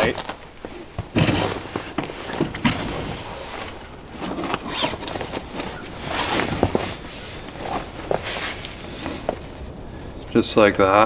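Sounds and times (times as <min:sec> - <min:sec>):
nylon bag rustling: 0:00.0 - 0:09.8.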